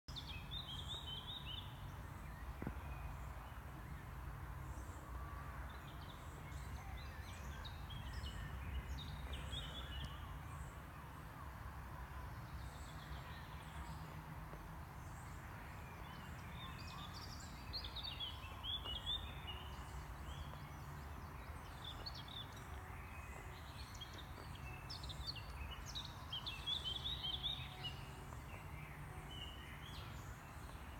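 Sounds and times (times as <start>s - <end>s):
songbirds singing: 0.1s - 30.9s.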